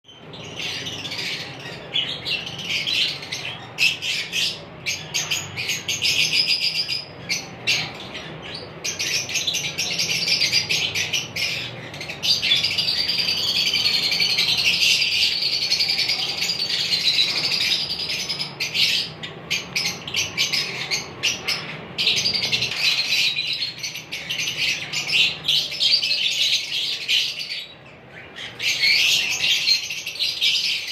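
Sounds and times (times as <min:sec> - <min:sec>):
lovebirds chirping and squawking: 0:00.1 - 0:30.9.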